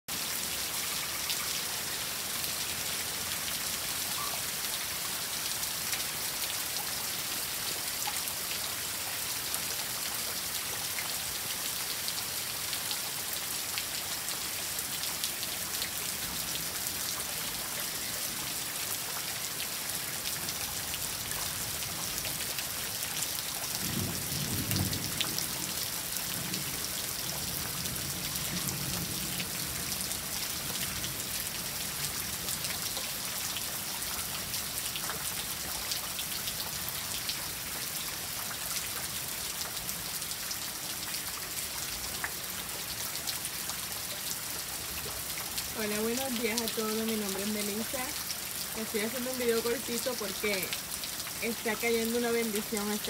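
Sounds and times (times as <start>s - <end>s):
heavy rain falling: 0.1s - 53.0s.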